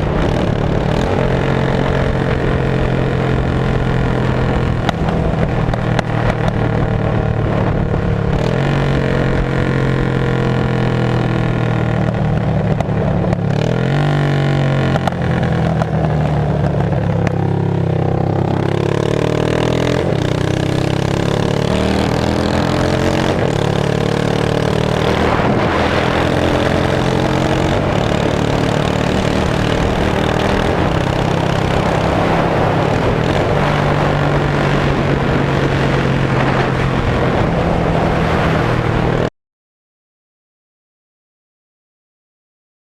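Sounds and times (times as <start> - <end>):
motorcycle engine running: 0.0 - 39.3.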